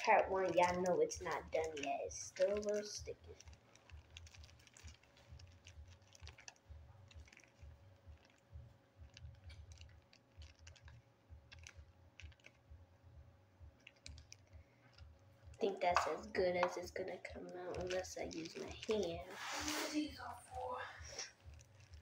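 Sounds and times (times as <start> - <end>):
plastic spoon scraping slime: 0.0 - 12.6, 13.8 - 20.1
faint steady hum: 0.0 - 22.0
plastic bag crinkling: 0.0 - 22.0.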